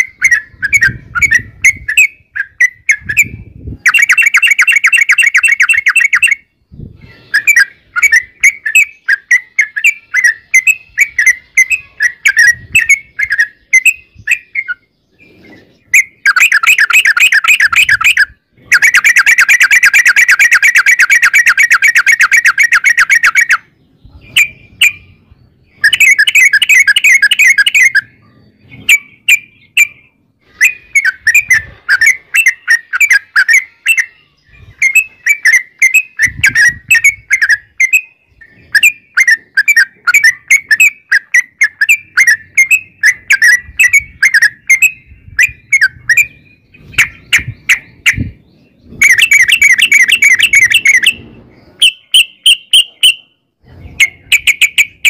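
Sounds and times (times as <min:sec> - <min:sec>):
bird singing bubbling notes: 0:00.0 - 0:55.0
rapid rattling bird calls: 0:00.0 - 0:55.0.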